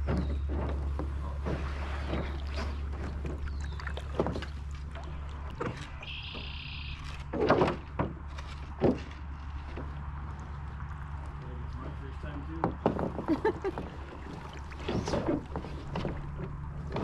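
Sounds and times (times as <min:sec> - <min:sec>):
canoe and paddles knocking: 0:00.0 - 0:17.0.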